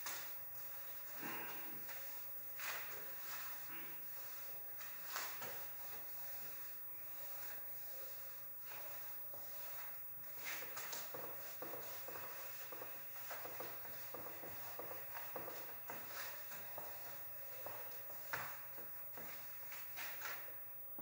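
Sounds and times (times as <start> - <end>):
eraser rubbing on whiteboard: 0.1 - 20.4.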